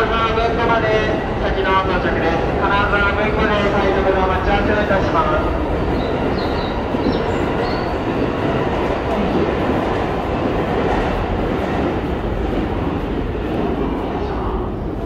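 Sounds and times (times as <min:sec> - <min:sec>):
train rail noise: 0:00.0 - 0:15.0.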